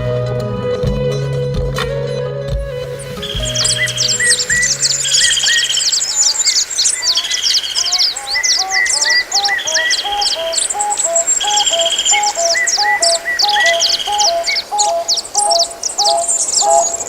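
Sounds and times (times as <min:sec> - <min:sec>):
buzzy bird trills: 0:02.9 - 0:17.0
high bird chirps: 0:02.9 - 0:17.0
lower whistled bird notes: 0:02.9 - 0:17.0.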